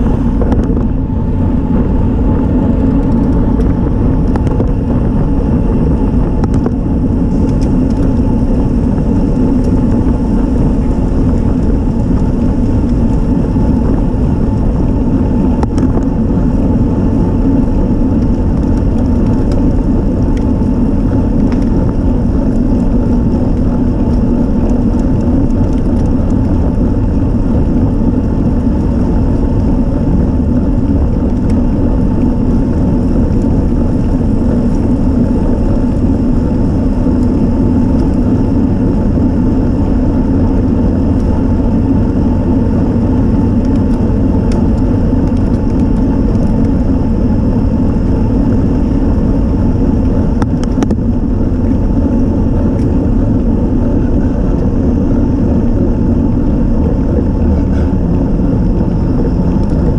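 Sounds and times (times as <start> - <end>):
rolling road noise: 0.0 - 59.9
wind rush on microphone: 0.0 - 59.9.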